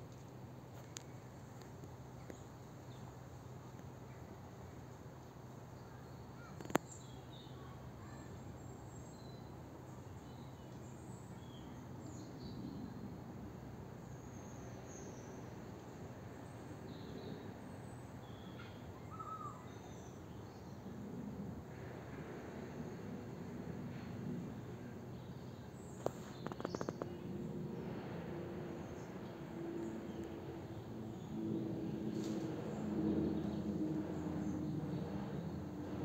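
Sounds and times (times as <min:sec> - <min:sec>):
low background hum: 0:00.0 - 0:36.0.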